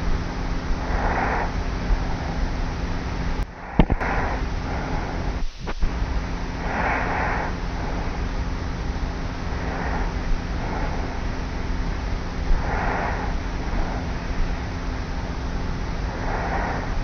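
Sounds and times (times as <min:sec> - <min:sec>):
tape hiss and hum: 0:00.0 - 0:17.0.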